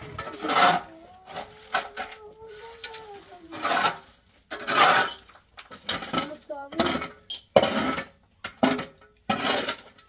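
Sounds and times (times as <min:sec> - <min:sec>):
rough scraping strokes: 0:00.0 - 0:08.2.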